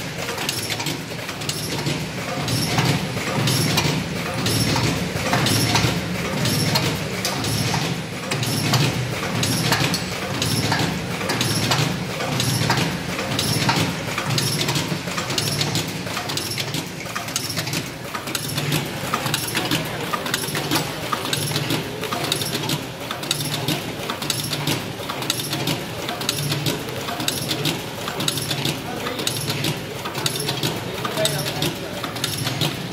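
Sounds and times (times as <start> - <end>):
packing machine clicks and clatter: 0.0 - 32.9.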